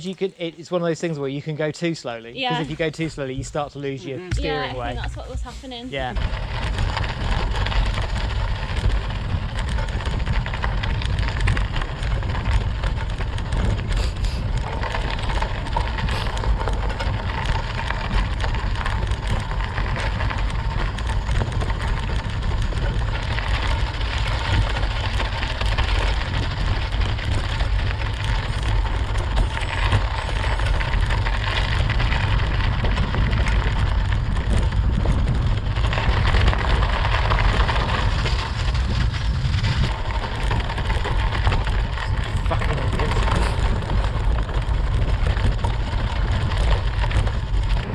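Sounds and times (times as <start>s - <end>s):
bike tyres crunching on snow: 0.0s - 47.9s
wind rumbling on microphone: 2.4s - 47.9s.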